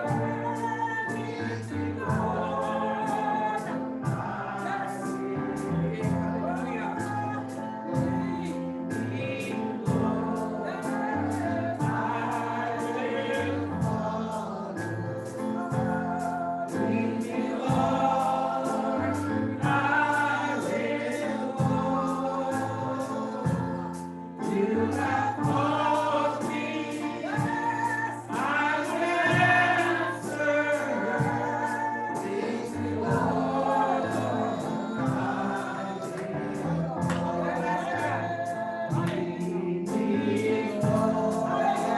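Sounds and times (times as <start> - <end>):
gospel choir singing over a beat: 0.0 - 41.9.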